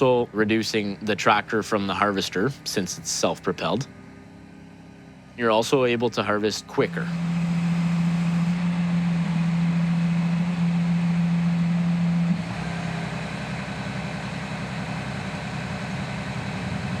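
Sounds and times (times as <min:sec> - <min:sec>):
harvester engine humming: 0:00.0 - 0:17.0.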